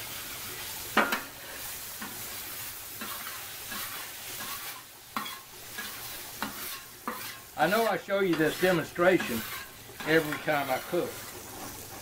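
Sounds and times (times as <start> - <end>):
water sizzling on hot griddle: 0.0 - 12.0
spatula scraping griddle: 0.1 - 12.0.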